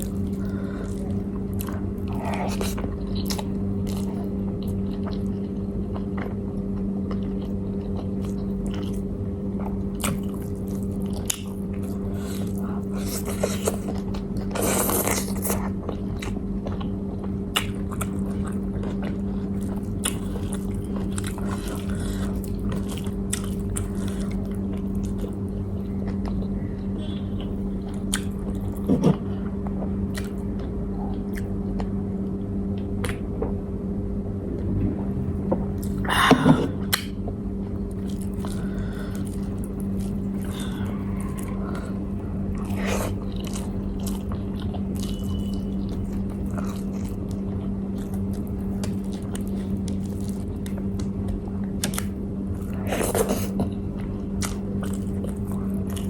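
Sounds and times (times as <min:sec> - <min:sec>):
person chewing crunchy food: 0:00.0 - 0:32.0, 0:35.6 - 0:56.0
steady low hum: 0:00.0 - 0:56.0.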